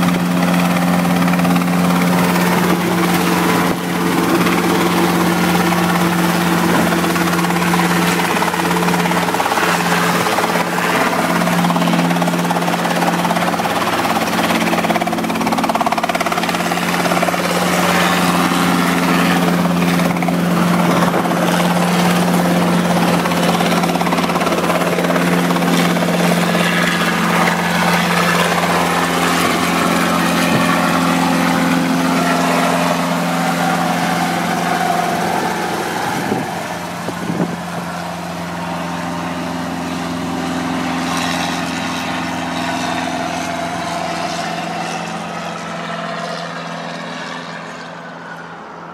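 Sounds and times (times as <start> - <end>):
helicopter engine and rotor drone: 0.0 - 48.9.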